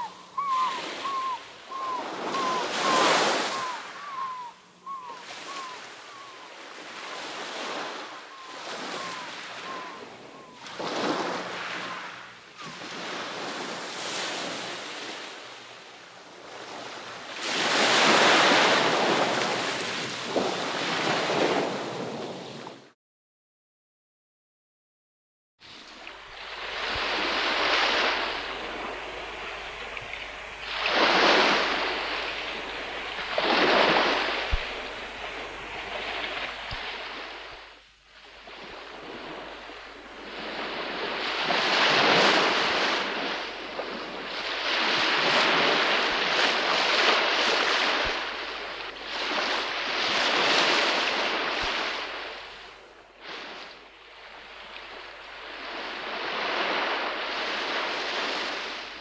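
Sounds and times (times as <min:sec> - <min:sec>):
sea waves breaking on shore: 0:00.0 - 0:22.8, 0:25.6 - 0:59.0.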